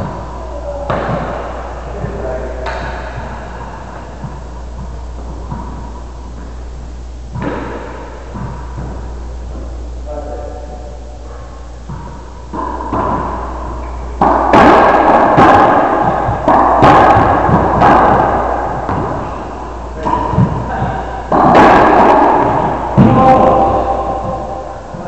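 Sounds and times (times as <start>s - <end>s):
ball striking court walls: 0.0s - 9.8s, 11.2s - 25.0s
racquet hitting ball: 0.0s - 9.8s, 10.5s - 25.0s.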